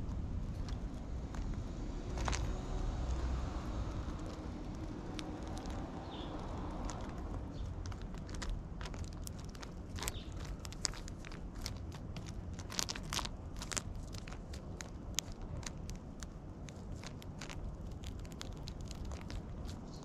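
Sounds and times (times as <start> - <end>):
low background rumble: 0.0 - 20.0
birds pecking seed on wooden board: 0.5 - 20.0.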